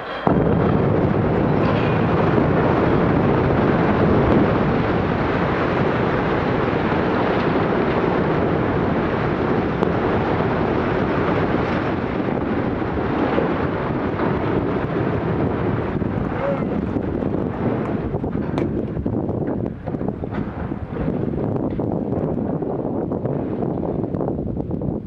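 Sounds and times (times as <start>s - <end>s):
tower collapsing rumble: 0.0s - 25.0s.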